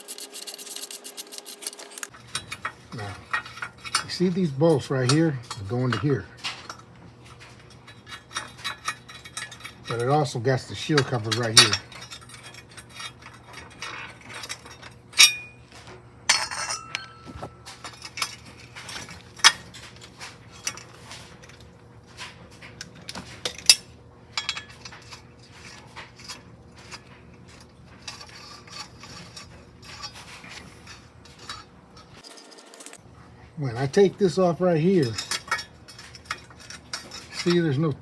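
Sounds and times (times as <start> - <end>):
metal tools clinking on car parts: 0.0 - 15.7, 16.3 - 21.6, 22.8 - 33.1, 33.7 - 38.0.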